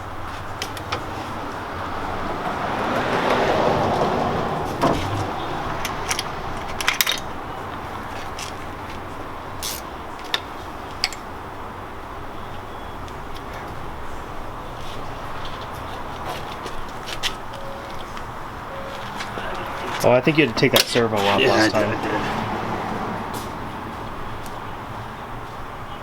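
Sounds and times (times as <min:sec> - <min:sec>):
traffic rushing: 0:00.0 - 0:26.0.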